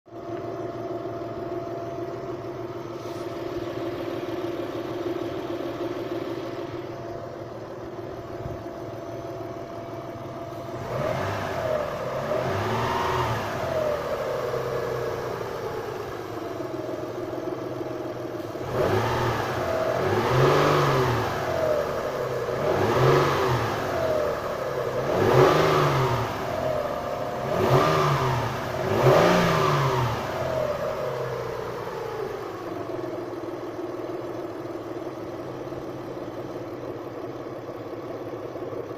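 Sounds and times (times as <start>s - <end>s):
car engine idling and revving: 0.1s - 38.9s.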